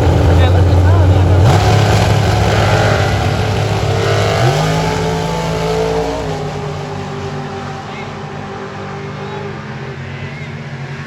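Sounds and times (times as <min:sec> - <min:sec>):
drag racing car accelerating: 0:00.0 - 0:11.0.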